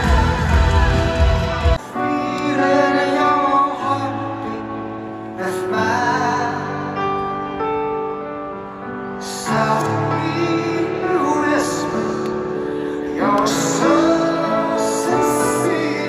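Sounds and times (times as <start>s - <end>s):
live band with singer: 0.0s - 16.0s.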